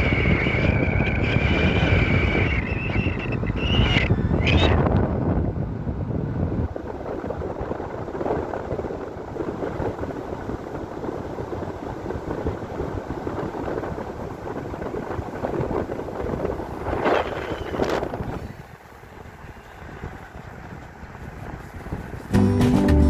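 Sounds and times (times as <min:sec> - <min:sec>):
wind buffeting microphone: 0:00.0 - 0:22.4.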